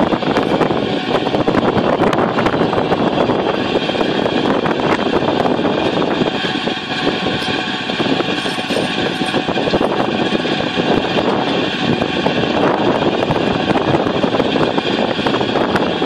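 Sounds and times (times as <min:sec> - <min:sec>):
vacuum collector engine humming: 0:00.0 - 0:16.0.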